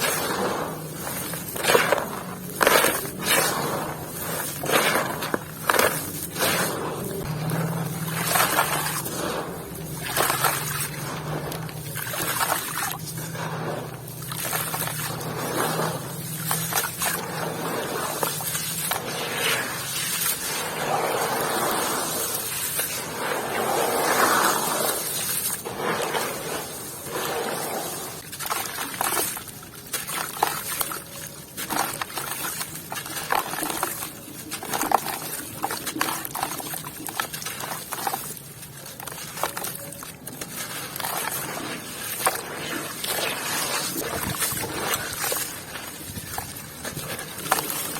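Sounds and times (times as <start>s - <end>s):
crumbly material being crushed: 0.0s - 47.9s.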